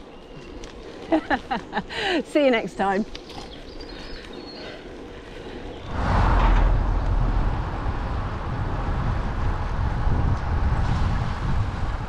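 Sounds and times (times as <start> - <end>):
road and wind rumble: 0.0 - 12.0.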